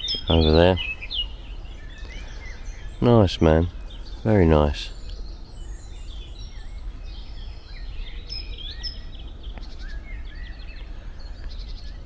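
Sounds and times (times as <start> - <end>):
songbirds chirping and whistling: 0.0 - 12.0.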